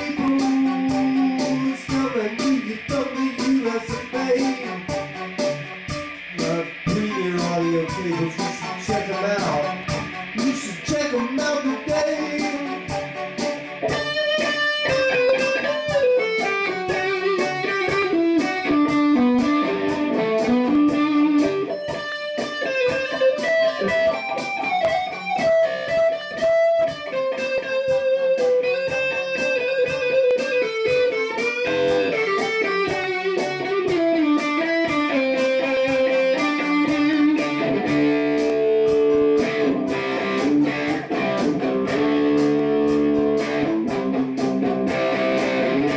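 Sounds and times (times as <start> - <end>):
electric guitar lead line: 0.0 - 45.9
looped rhythm with steady beat: 0.0 - 45.9.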